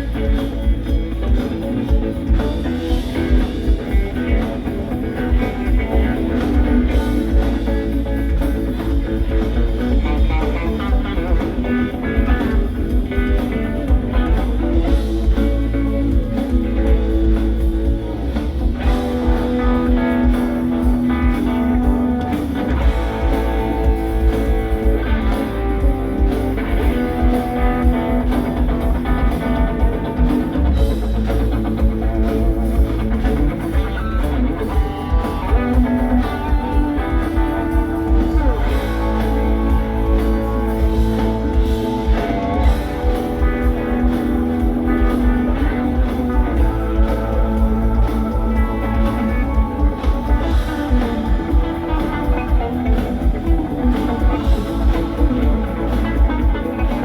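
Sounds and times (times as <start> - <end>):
drum kit: 0.0 - 57.0
electric guitar: 0.0 - 57.0
rock band playing: 0.0 - 57.0.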